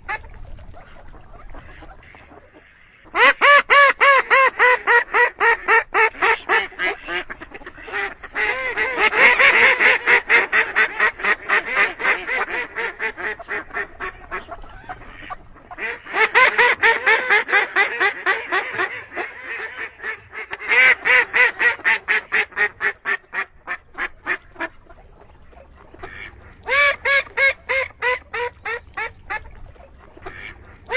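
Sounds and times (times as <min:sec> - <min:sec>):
duck quacking: 0:00.0 - 0:30.9.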